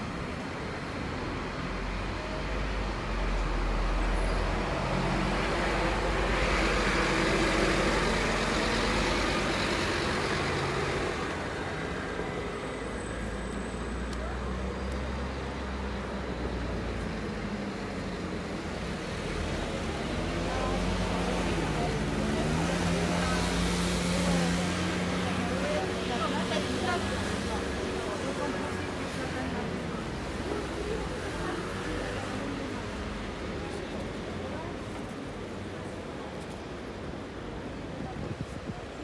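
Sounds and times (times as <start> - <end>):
steady low traffic rumble: 0.0 - 39.0.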